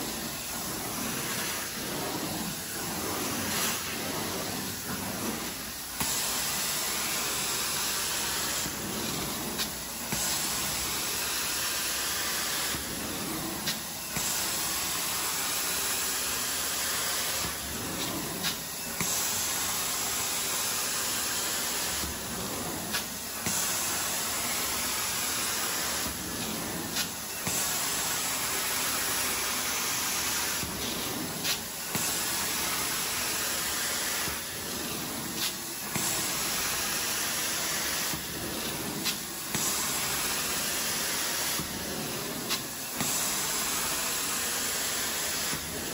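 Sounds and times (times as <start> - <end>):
carpet cleaner hissing: 0.0 - 45.9.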